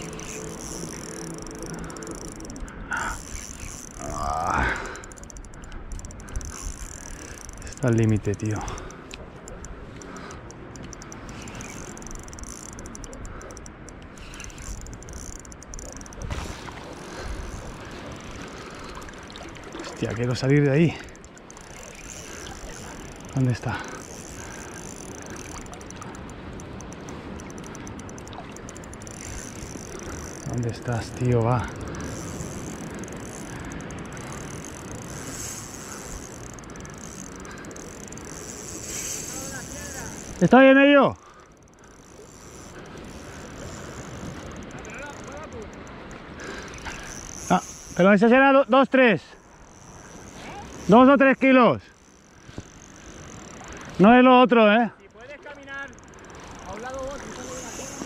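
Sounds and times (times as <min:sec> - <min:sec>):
fishing reel drag ticking: 0:00.0 - 0:58.0
water and wind wash: 0:00.0 - 0:58.0.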